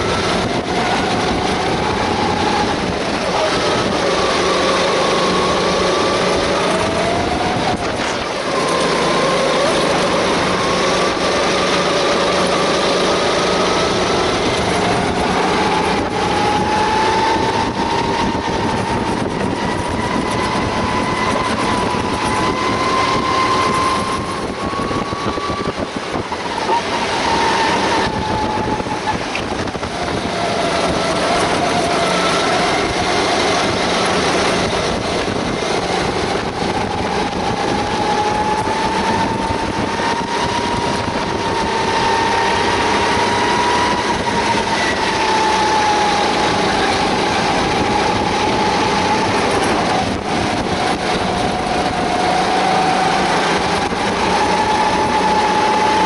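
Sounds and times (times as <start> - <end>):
kart engine at racing speed: 0.0 - 56.0
other kart engines ahead: 0.0 - 56.0.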